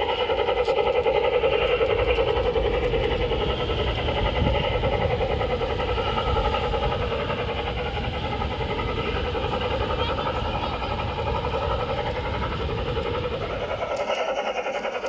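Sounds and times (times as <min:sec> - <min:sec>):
model train motor hum: 0:00.0 - 0:15.0
wheels running on track: 0:00.0 - 0:15.0.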